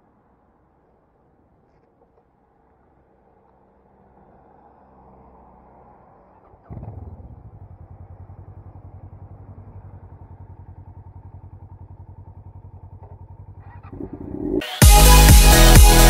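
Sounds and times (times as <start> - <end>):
motorcycle engine starting and idling: 0.2 - 15.3.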